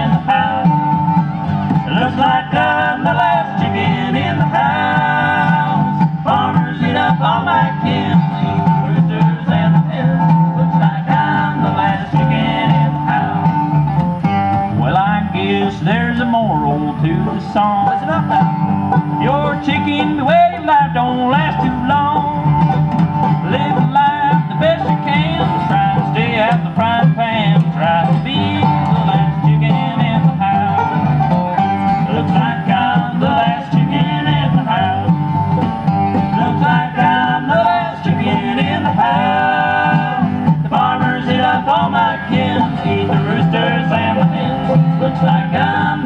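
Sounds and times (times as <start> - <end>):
bluegrass band on acoustic strings: 0.0 - 46.0.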